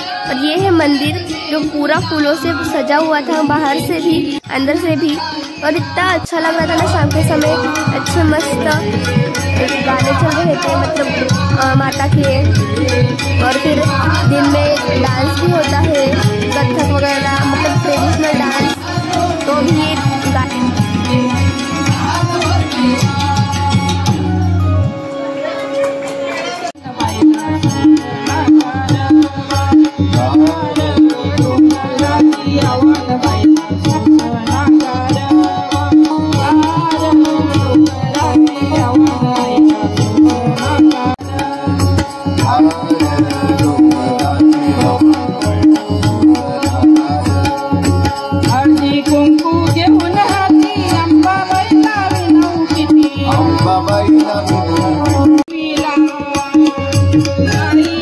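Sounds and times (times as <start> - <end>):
fast tabla strokes: 0.0 - 25.0, 26.7 - 58.0
harmonium held note: 0.0 - 58.0
person singing: 0.0 - 58.0.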